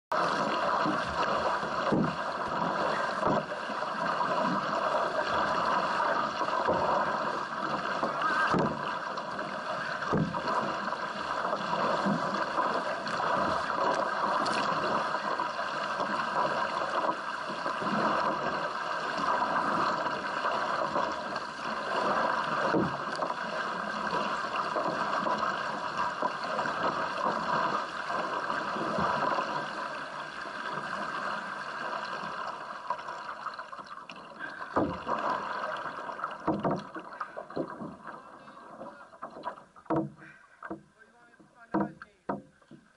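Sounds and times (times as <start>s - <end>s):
paddle blades splashing water: 0.1s - 42.9s
water rushing along hull: 0.1s - 42.9s.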